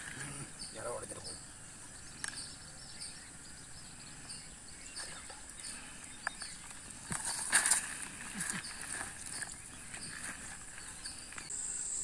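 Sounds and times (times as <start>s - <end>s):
high insect hum: 0.0s - 12.0s
bird chirps: 0.1s - 7.2s, 8.2s - 12.0s.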